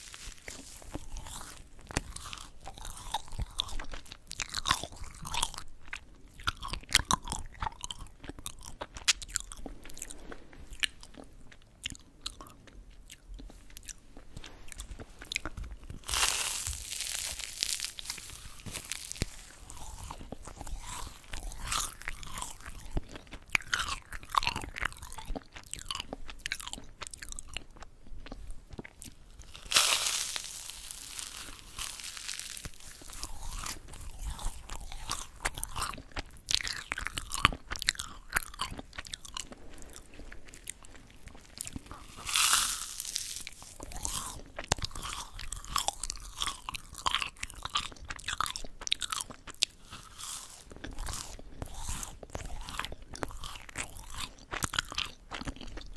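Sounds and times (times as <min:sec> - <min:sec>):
crunching crisp cookies: 0:00.0 - 0:55.9.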